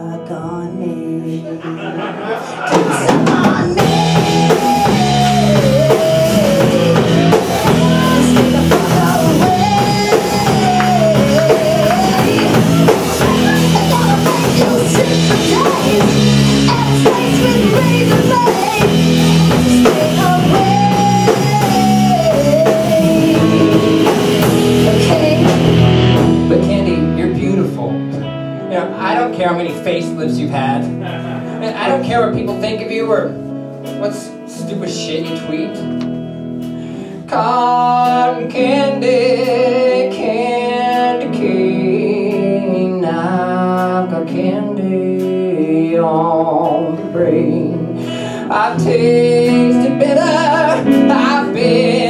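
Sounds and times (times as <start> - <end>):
live rock band playing: 0.1 - 52.0.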